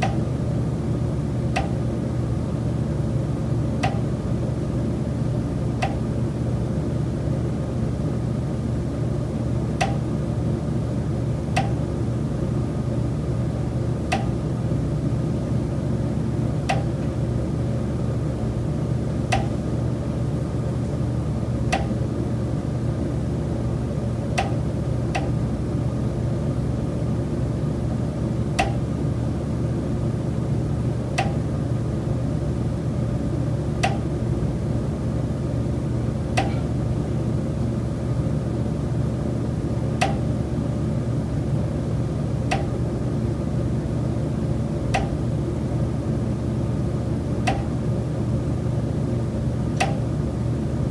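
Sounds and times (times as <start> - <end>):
low mechanical hum: 0.0 - 50.9.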